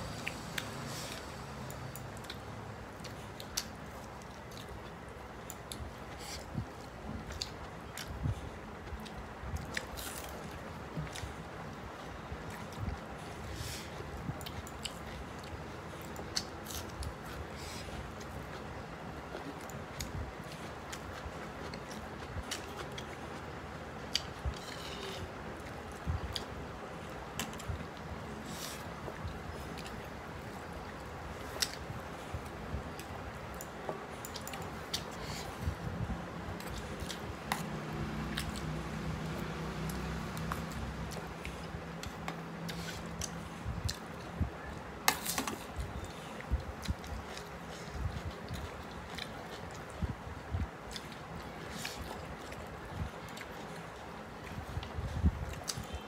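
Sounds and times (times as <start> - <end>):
chewing and wet mouth noises: 0.1 - 56.0.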